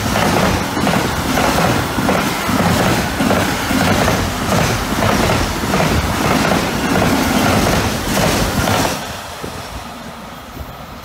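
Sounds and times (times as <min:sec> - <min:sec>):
wheels clickety-clack on rails: 0:00.0 - 0:09.8
freight train rumble: 0:00.0 - 0:11.0.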